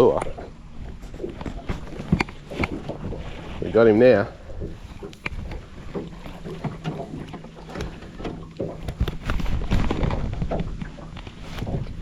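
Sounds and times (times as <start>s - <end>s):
knocks and clicks in a boat: 0.0s - 12.0s
light wind: 0.0s - 12.0s
water: 0.0s - 12.0s.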